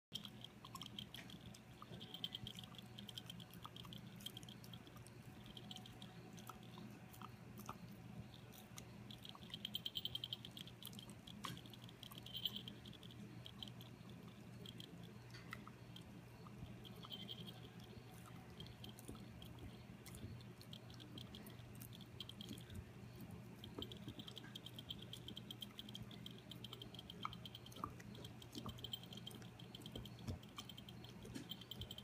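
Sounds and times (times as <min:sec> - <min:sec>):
dog chewing: 0:00.1 - 0:32.0
faint low hum: 0:00.1 - 0:32.0.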